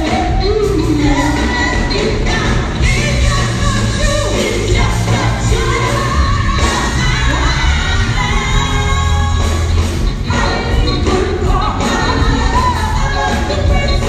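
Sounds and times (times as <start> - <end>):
band accompaniment: 0.0 - 14.0
bass line: 0.0 - 14.0
gospel group singing: 0.0 - 14.0.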